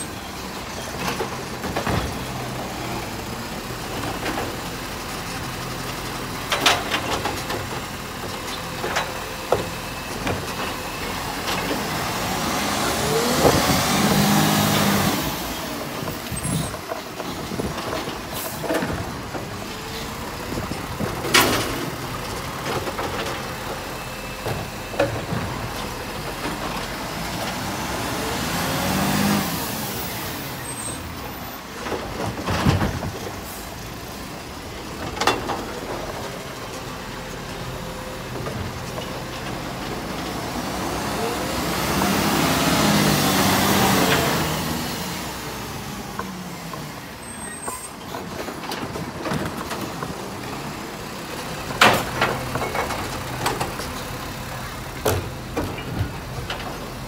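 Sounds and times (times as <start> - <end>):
garbage truck engine running: 0.0 - 57.0
bins clanking and knocking: 0.6 - 2.8, 3.8 - 12.2, 13.1 - 27.8, 30.7 - 34.1, 34.7 - 42.3, 46.1 - 57.0.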